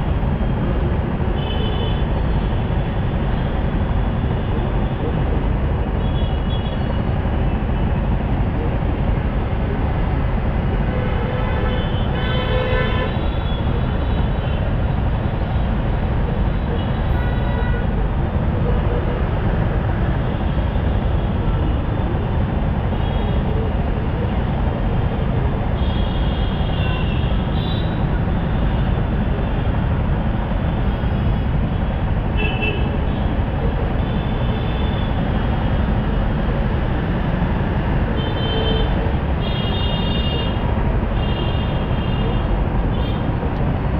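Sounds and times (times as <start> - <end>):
idling motorcycle and car engines: 0.0 - 12.2, 12.9 - 43.9.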